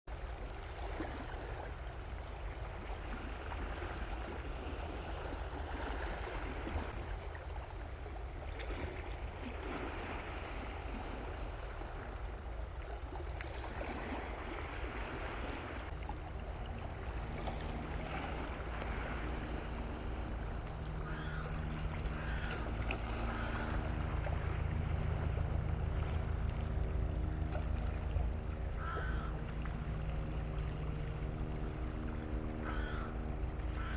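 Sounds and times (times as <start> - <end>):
boat motor hum: 0.1 - 33.9
water moving: 0.1 - 33.9.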